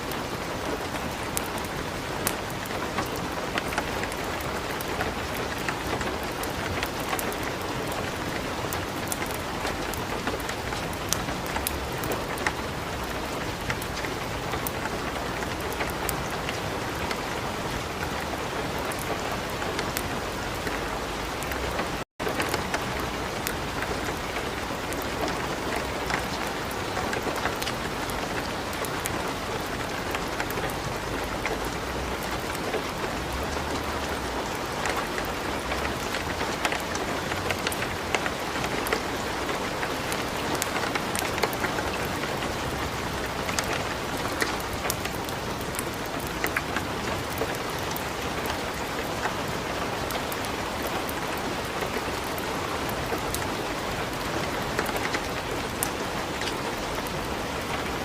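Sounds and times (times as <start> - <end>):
wood fire crackling: 0.0 - 49.4
light rain falling: 0.0 - 58.0.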